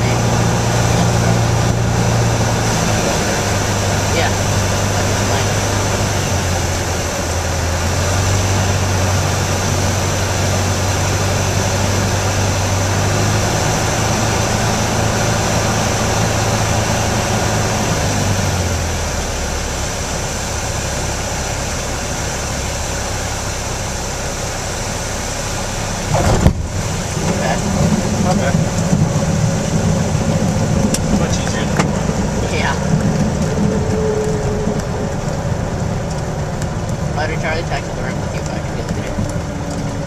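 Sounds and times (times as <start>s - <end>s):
aircraft engine and propeller drone: 0.0s - 40.0s
rushing air: 0.0s - 40.0s.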